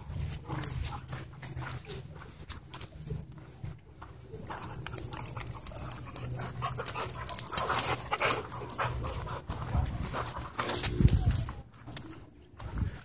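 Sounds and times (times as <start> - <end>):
dogs panting: 0.0 - 12.9.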